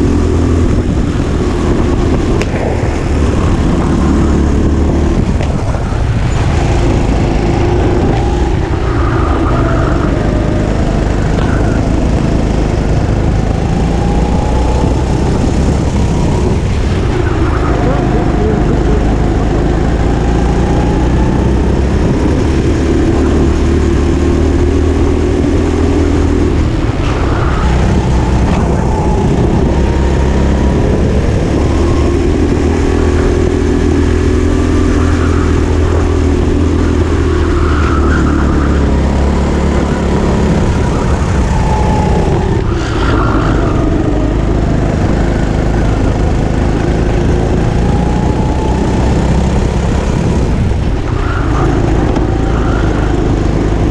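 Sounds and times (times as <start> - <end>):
go-kart engine revving: 0.0 - 53.9.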